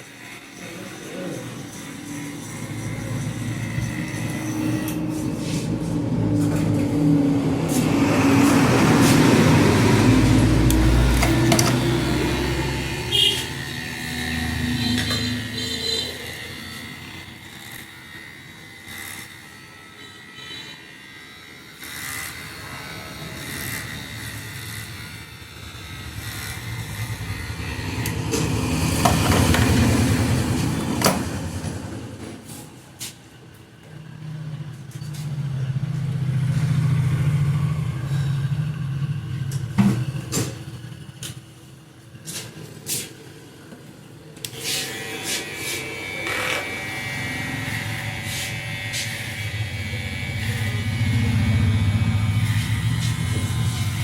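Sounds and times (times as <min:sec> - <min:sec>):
vehicles passing by: 0:01.8 - 0:17.2, 0:22.5 - 0:54.0.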